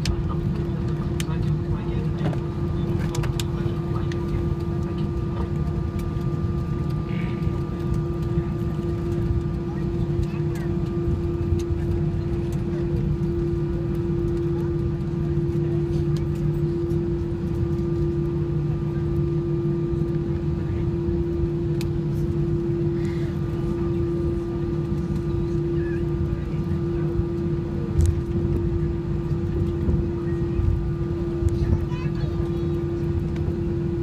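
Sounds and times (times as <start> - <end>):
aircraft engines at low thrust: 0.0 - 34.0.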